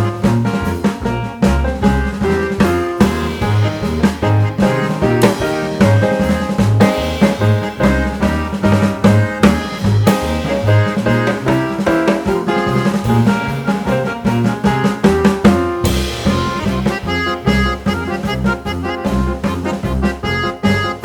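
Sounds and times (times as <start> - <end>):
background music with drum beat: 0.0 - 21.0.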